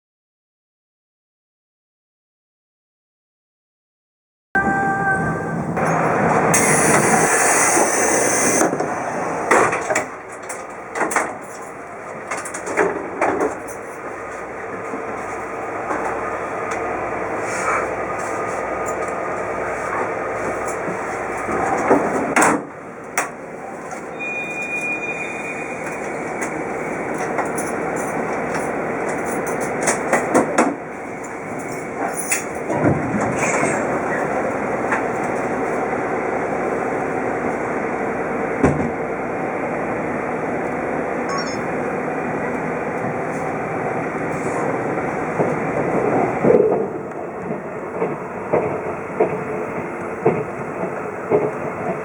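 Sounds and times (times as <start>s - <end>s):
train running noise: 4.6s - 52.0s.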